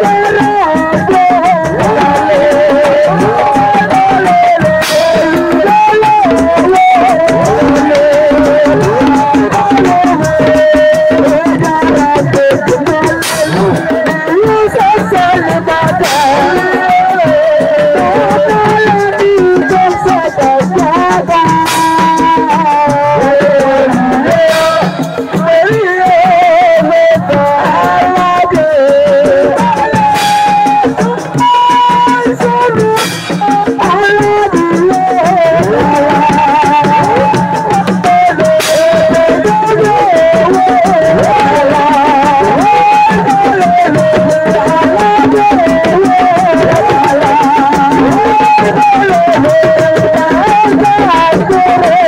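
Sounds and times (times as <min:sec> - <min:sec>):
fast hand percussion: 0:00.0 - 0:52.0
person singing ornamented melody: 0:00.0 - 0:52.0.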